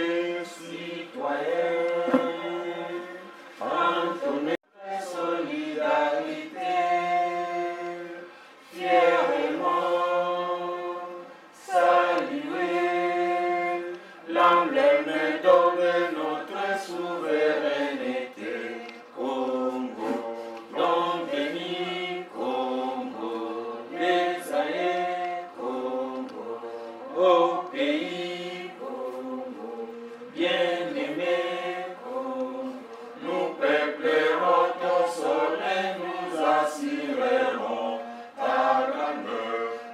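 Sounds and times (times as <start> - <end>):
group singing unaccompanied: 0.0 - 39.9.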